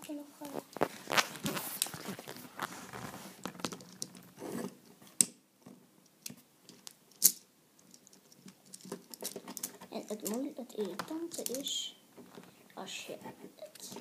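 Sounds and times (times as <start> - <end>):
plastic toy parts scraping and rattling: 0.5 - 4.8, 6.7 - 14.0.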